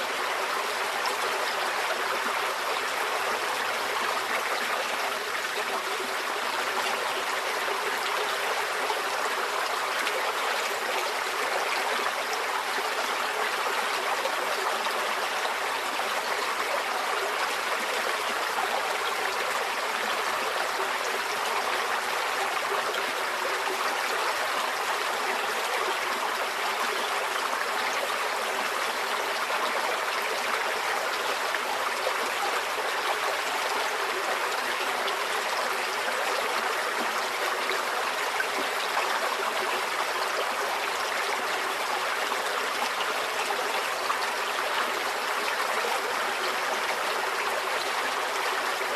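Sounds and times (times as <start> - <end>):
stream flowing over stones: 0.0 - 48.9.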